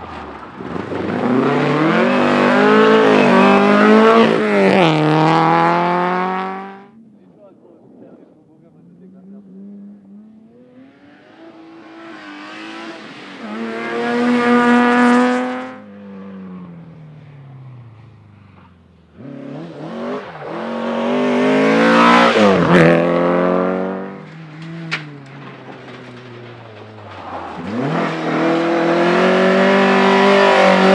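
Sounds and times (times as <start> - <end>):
rally car engines at full throttle: 0.0 - 30.9.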